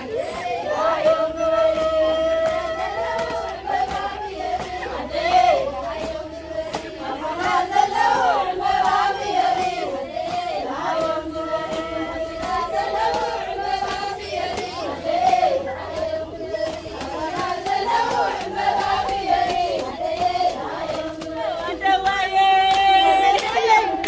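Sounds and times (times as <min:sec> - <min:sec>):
women chanting a prayer: 0:00.0 - 0:24.0.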